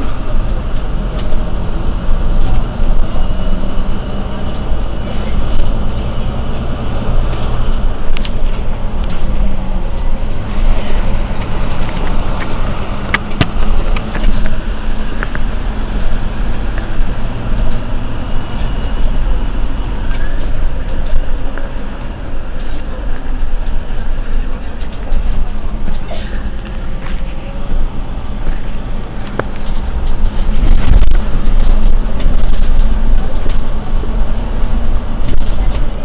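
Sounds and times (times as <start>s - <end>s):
bus diesel engine idling: 0.0s - 36.0s.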